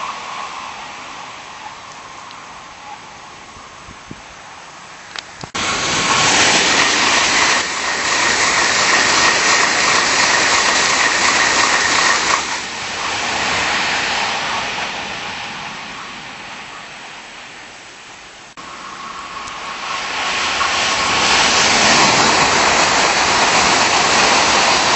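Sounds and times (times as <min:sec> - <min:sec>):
high-speed train passing: 0:00.0 - 0:24.9.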